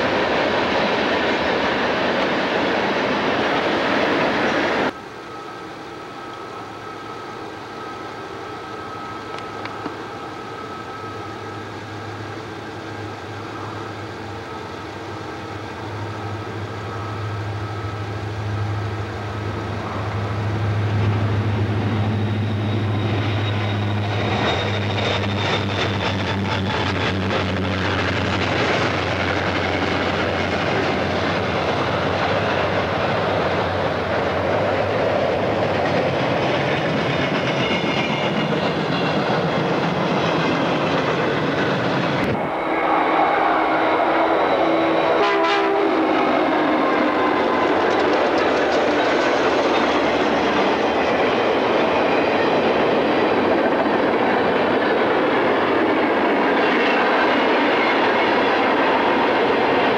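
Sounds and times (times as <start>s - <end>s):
train wheels clicking on rail joints: 0.0s - 42.4s, 45.2s - 59.9s
locomotive engine drone: 0.0s - 59.9s.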